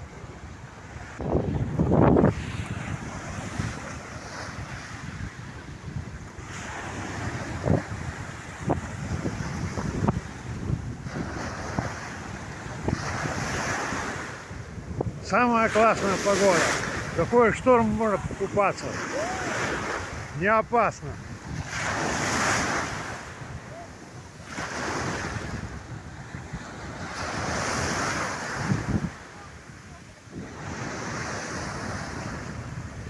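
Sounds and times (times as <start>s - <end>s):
wind buffeting microphone: 0.0s - 20.4s, 21.0s - 33.0s
sea surf washing on shore: 0.0s - 33.0s
waves breaking: 0.0s - 33.0s.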